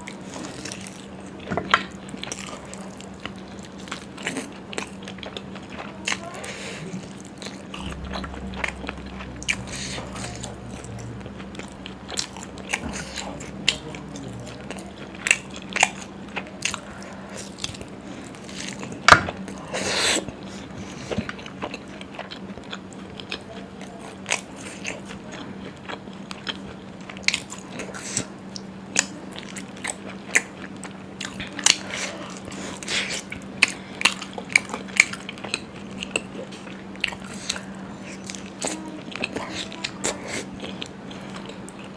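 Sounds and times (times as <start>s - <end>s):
person chewing food: 0.0s - 41.9s
steady low hum: 0.0s - 41.9s.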